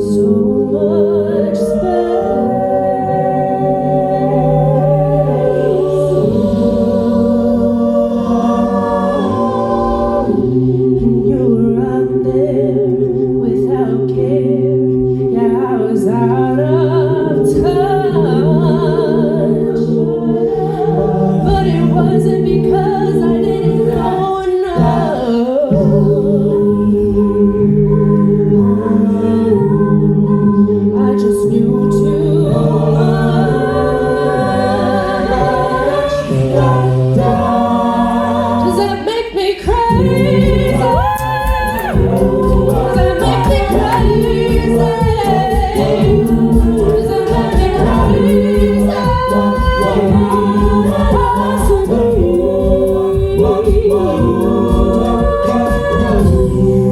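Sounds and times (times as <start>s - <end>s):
a cappella ensemble singing: 0.0s - 56.9s.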